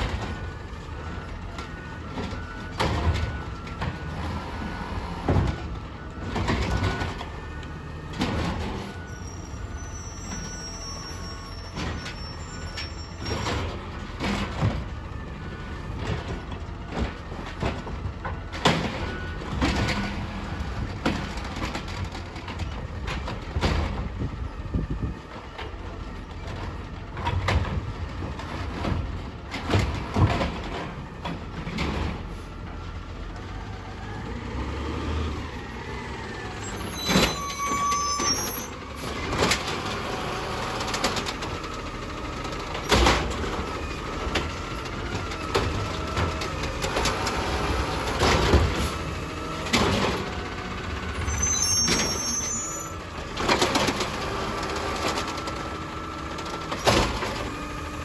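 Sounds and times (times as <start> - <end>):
garbage truck engine running: 0.0 - 58.0
bins clanking and banging: 1.1 - 4.4, 5.1 - 15.2, 15.8 - 24.2, 25.6 - 33.6, 36.4 - 58.0.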